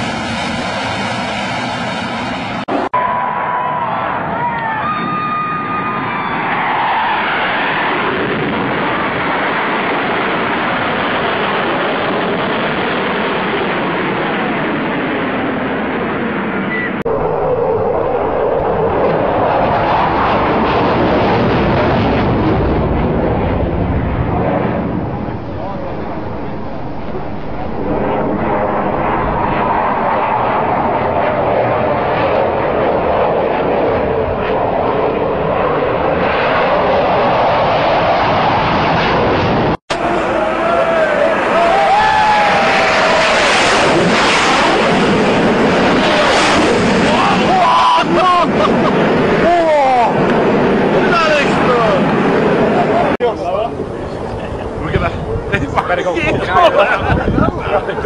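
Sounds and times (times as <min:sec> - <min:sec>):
jet engine roar: 0:00.0 - 0:58.0.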